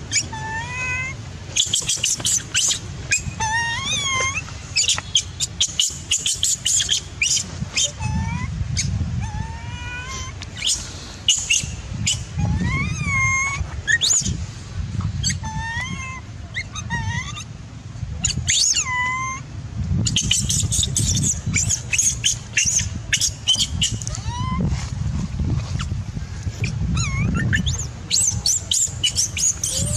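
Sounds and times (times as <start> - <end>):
baby monkey squealing: 0.1 - 14.4, 15.2 - 17.5, 18.2 - 24.7, 26.6 - 29.9.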